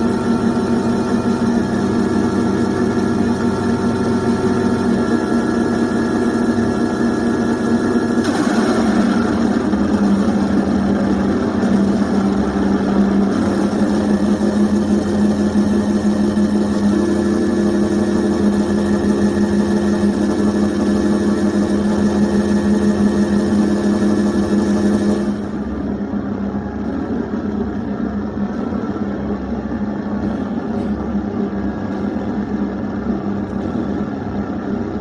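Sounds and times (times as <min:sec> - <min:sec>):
dark ambient drone: 0:00.0 - 0:35.0.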